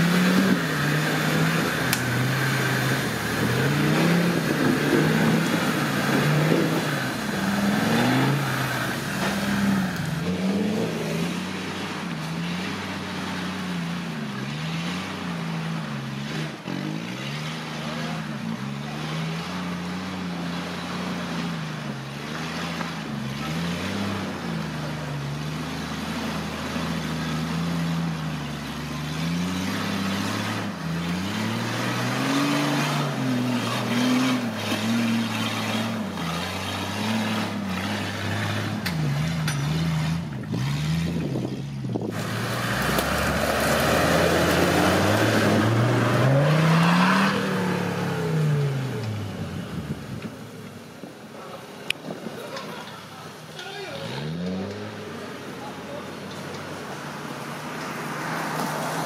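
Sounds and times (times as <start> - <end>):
off-road engine revving: 0.0 - 59.0.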